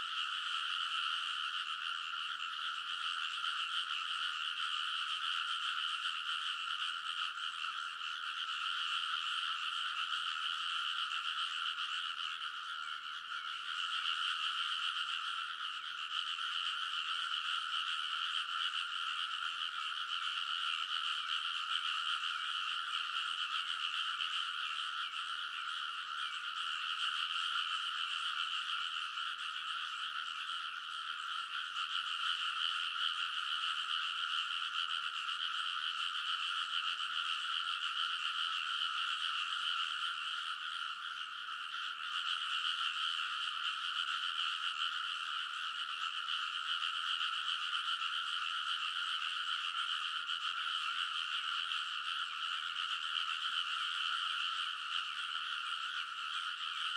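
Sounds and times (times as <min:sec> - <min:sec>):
chorus of frogs croaking: 0:00.0 - 0:56.9.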